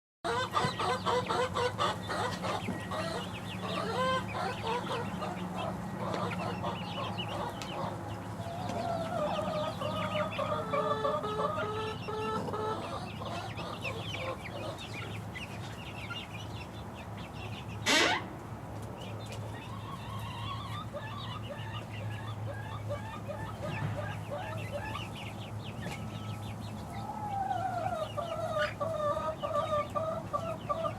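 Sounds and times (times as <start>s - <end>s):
chicks peeping: 0.3s - 30.9s.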